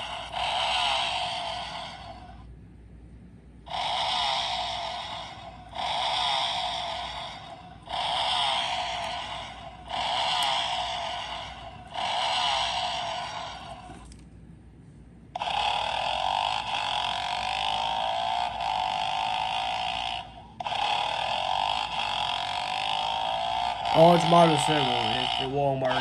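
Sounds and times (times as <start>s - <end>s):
toy motorbike engine revving effect: 0.0s - 2.4s, 3.7s - 14.1s, 15.4s - 26.0s.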